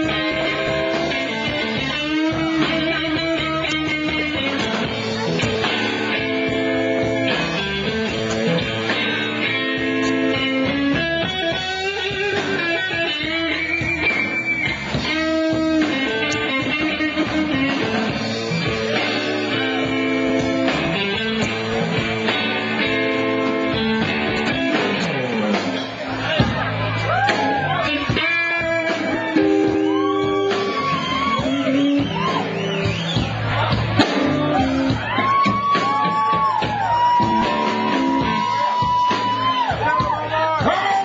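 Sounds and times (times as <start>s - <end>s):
drums: 0.0s - 41.0s
electric guitar riff: 0.0s - 41.0s.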